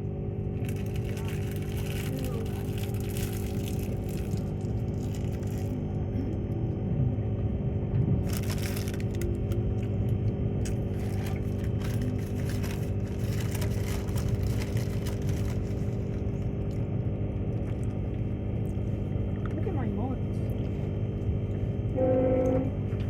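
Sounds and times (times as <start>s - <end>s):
train carriage rumble and hum: 0.0s - 23.0s.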